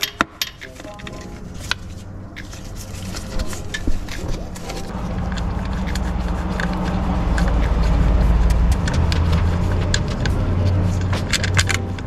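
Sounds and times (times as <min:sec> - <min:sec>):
vehicle engine droning: 0:00.7 - 0:12.0.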